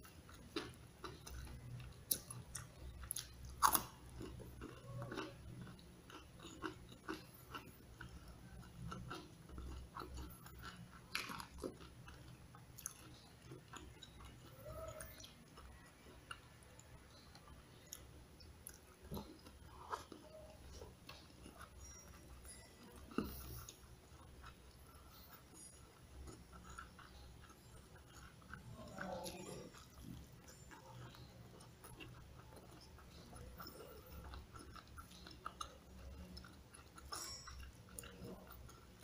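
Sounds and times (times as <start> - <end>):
chewing crispy food: 0.0 - 39.0.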